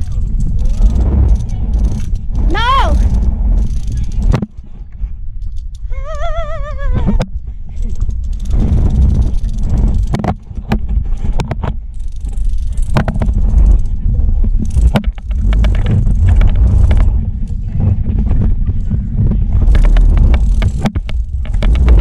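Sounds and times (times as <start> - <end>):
sharp clicks and knocks: 0.0 - 6.3, 7.0 - 22.0
wind buffeting microphone: 0.0 - 22.0.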